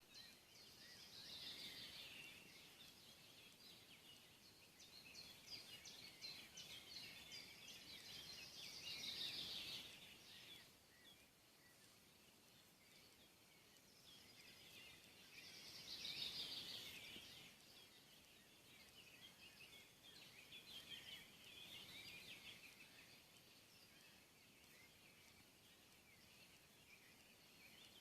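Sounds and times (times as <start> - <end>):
soft outdoor hiss: 0.0 - 28.0
songbirds chirping and trilling: 0.0 - 28.0.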